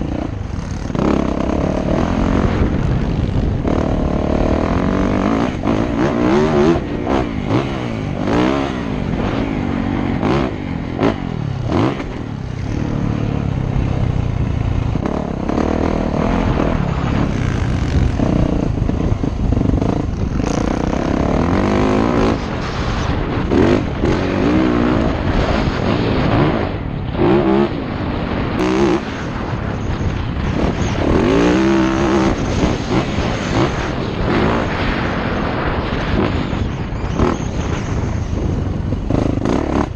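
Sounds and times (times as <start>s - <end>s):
dirt bike engine revving: 0.0s - 39.9s
wind rumble: 0.0s - 39.9s.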